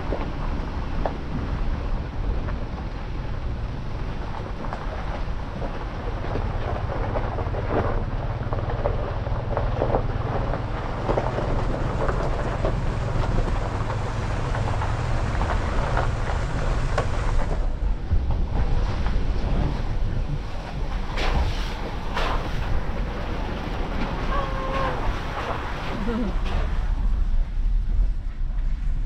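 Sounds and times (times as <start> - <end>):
low rumble of road noise: 0.0 - 29.0.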